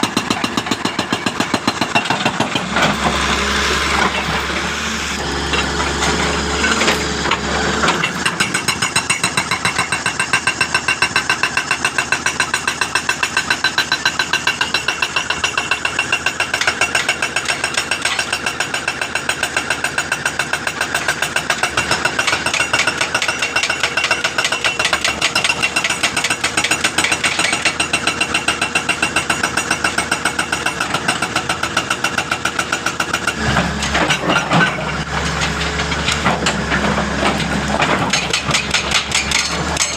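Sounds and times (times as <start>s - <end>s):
jack hammer hammering: 0.0s - 4.6s, 5.2s - 33.4s, 36.1s - 39.9s.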